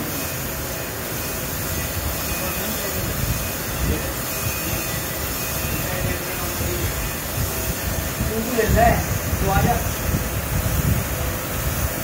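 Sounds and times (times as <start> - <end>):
grinding machine hiss and drone: 0.0 - 12.0.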